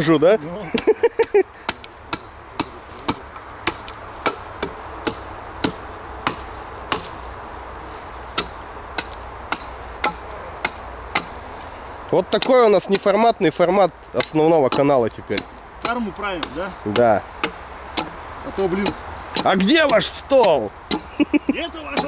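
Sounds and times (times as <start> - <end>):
hatchet chopping wood: 0.7 - 13.3, 14.0 - 22.0.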